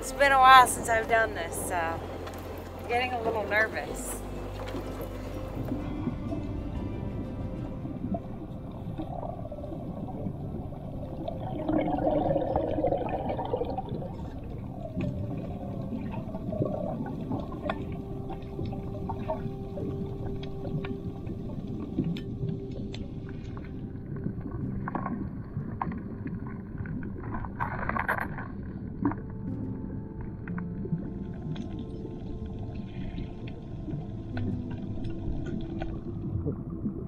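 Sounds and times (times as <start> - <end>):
underwater rumble of water: 0.0 - 37.0
bubbles gurgling: 0.2 - 37.0.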